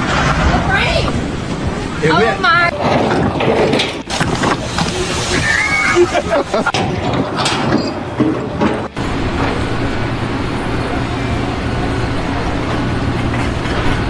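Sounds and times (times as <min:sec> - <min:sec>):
heavy engine droning: 0:01.2 - 0:14.0.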